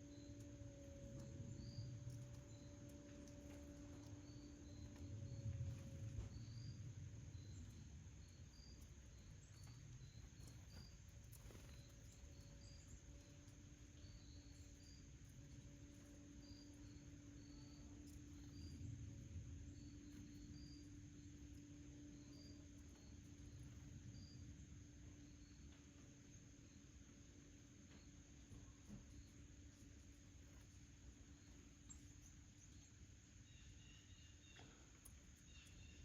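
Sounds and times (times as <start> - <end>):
faint high-pitched chirps: 0.0 - 36.0
low hum: 0.0 - 36.0.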